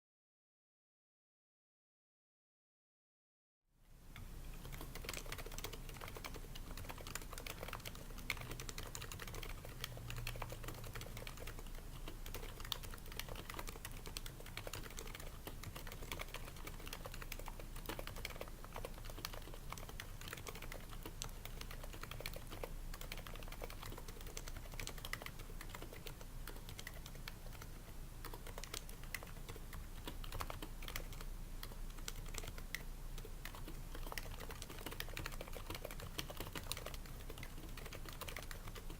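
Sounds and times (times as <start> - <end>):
keyboard typing: 4.2 - 38.9.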